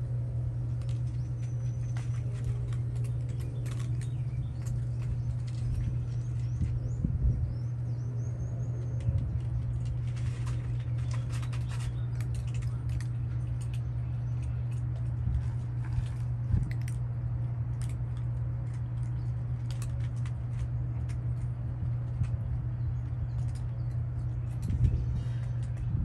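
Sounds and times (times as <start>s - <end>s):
cats crunching dry kibble: 0.0s - 26.0s
steady low hum: 0.0s - 26.0s.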